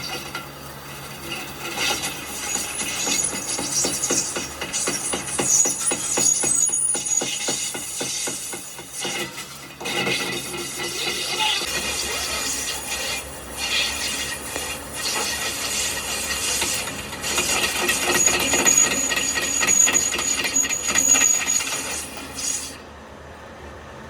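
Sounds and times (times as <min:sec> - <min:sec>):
high whine: 0:00.0 - 0:22.9.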